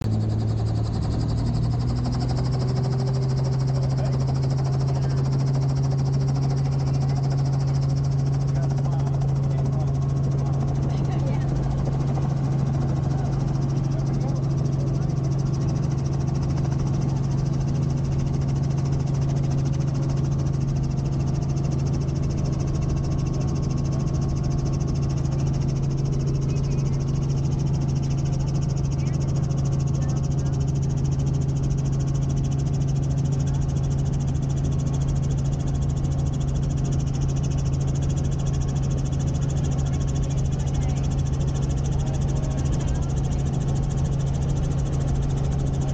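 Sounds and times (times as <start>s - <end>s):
helicopter turbine and rotor drone: 0.0s - 45.9s.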